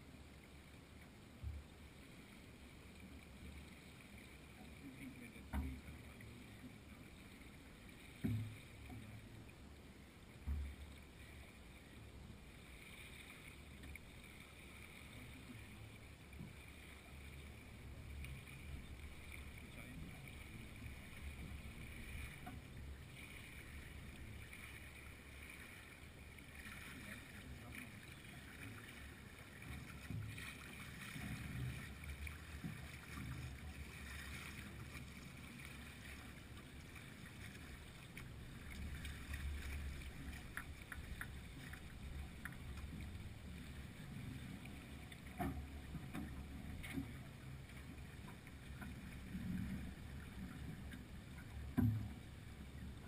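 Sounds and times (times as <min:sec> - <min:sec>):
faint clicks and soft knocks: 0:00.3 - 0:53.0
water washing along boat hull: 0:01.4 - 0:53.0.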